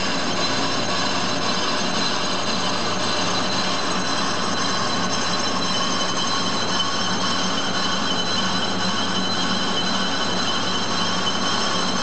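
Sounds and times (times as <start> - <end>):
metal lathe whirring and whining: 0.0 - 12.0.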